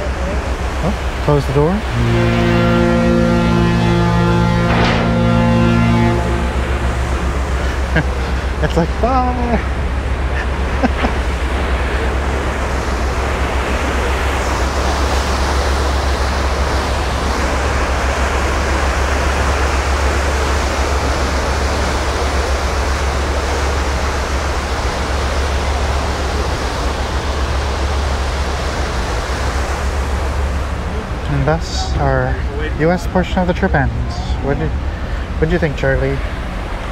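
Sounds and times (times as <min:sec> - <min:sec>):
low ship rumble: 0:00.0 - 0:36.9
propeller wash churning water: 0:00.0 - 0:36.9.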